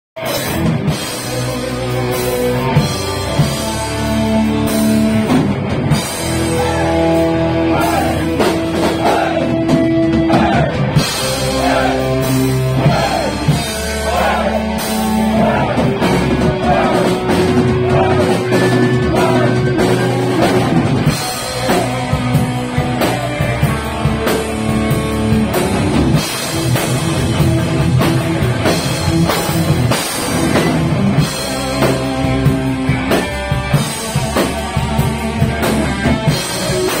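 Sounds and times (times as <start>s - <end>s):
heavy metal band playing: 0.2s - 37.0s.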